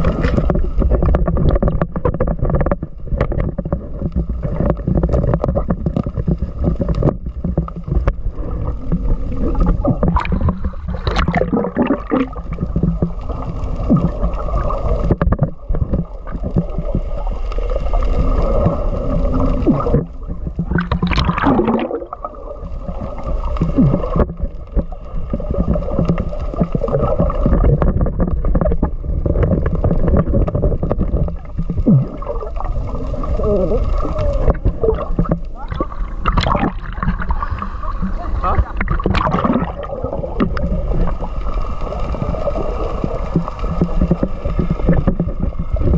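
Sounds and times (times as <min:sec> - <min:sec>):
muffled underwater rumble and gurgling: 0:00.0 - 0:45.9
water swishing: 0:00.0 - 0:45.9.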